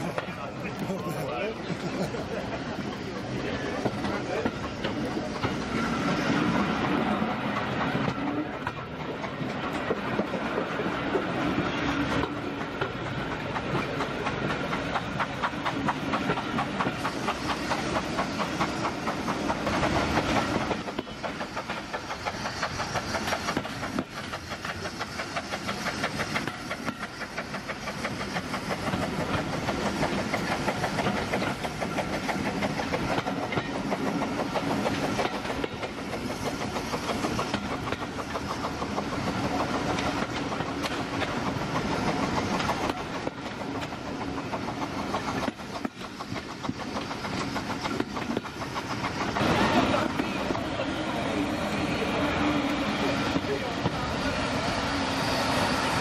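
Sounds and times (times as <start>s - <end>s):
train wheels clickety-clack: 0.0s - 56.0s.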